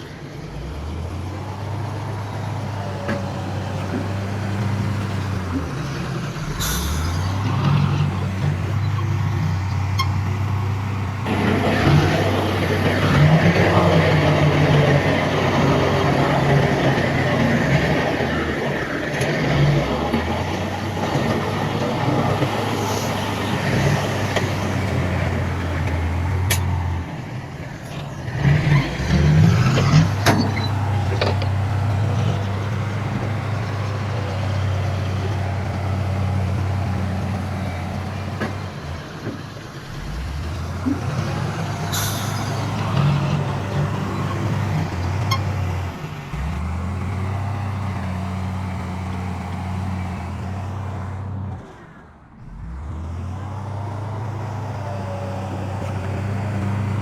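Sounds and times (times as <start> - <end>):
heavy diesel machinery drone: 0.0 - 57.0.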